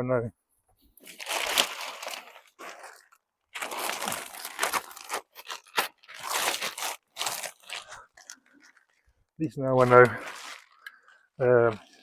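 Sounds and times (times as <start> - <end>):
plastic sheet crinkling: 1.0 - 12.0.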